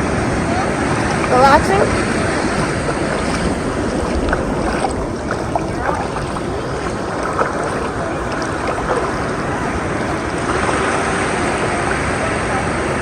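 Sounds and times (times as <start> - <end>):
faint children's voices: 0.0 - 13.0
ocean surf: 0.0 - 13.0
wind buffeting microphone: 0.0 - 13.0.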